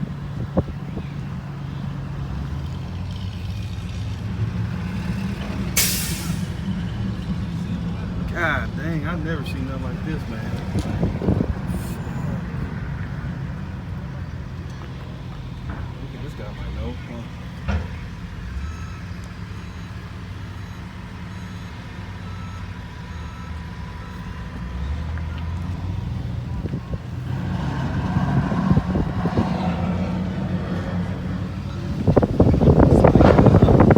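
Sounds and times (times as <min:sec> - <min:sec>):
vehicle engine droning: 0:00.0 - 0:33.9.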